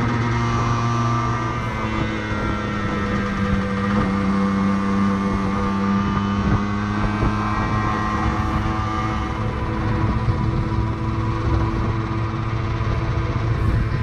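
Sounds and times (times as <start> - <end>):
two-stroke motorcycle engine: 0.0 - 14.0.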